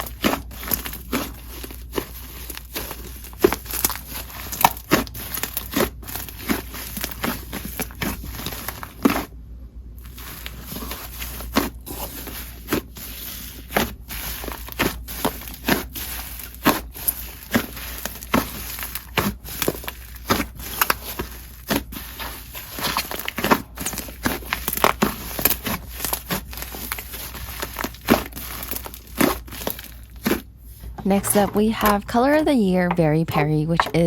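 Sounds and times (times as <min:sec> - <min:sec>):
slime crackling: 0:00.0 - 0:09.3, 0:10.0 - 0:30.5.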